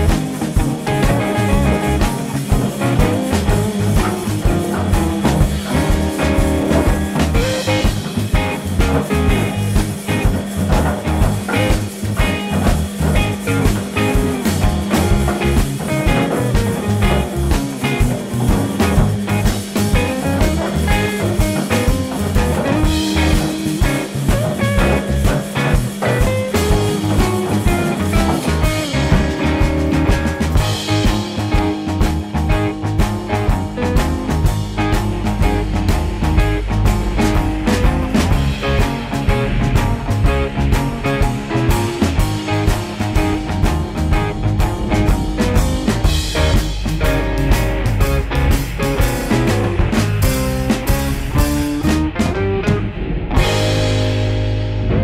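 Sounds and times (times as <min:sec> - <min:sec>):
guitar music with steady beat: 0:00.0 - 0:55.0.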